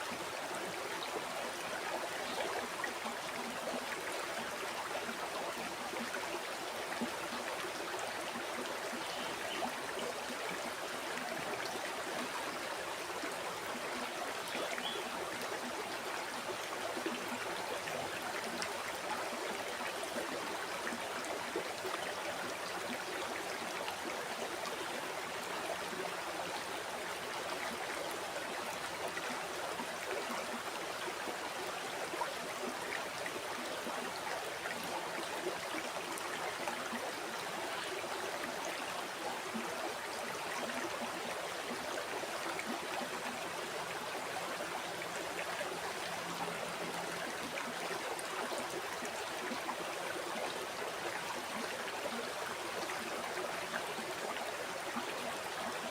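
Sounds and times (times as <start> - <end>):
river water flowing over stones: 0.0 - 55.9.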